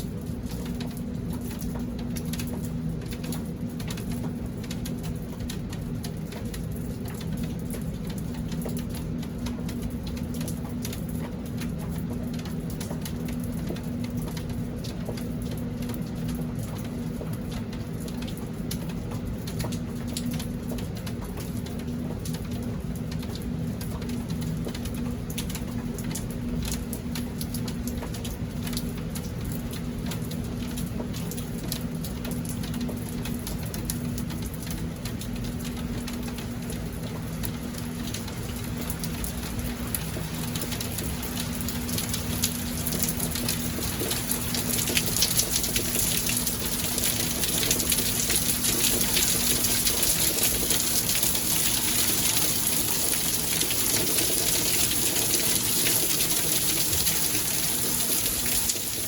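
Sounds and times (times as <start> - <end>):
rain with dripping drops: 0.0 - 59.0.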